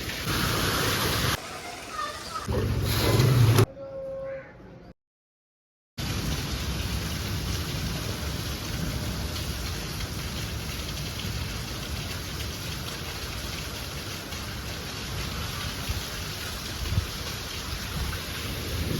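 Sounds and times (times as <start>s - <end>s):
heavy rain falling: 0.0s - 2.9s, 6.0s - 18.9s.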